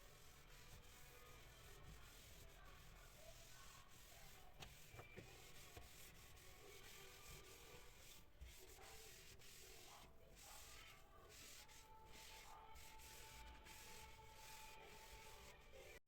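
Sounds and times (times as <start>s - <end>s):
faint rubbing: 0.0s - 16.0s.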